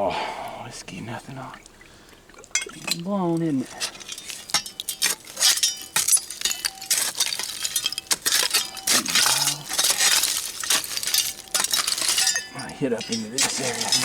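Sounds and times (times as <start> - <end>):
broken glass clinking and scraping: 2.5 - 14.0.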